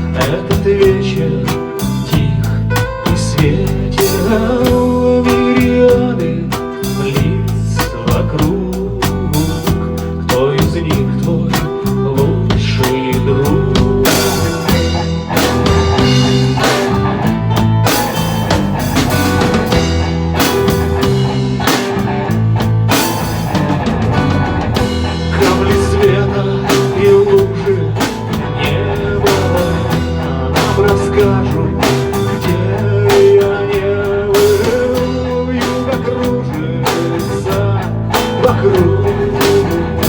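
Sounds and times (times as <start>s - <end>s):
drum kit beat: 0.0s - 40.0s
guitar: 0.0s - 40.0s.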